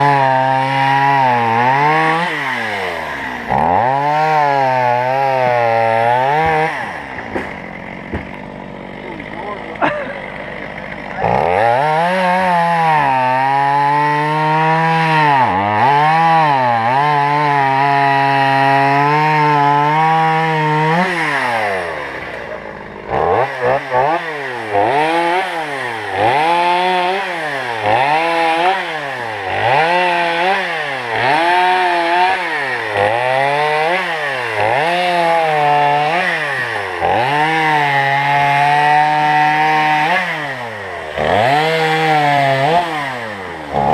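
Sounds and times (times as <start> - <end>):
chainsaw running at high speed: 0.0 - 43.9.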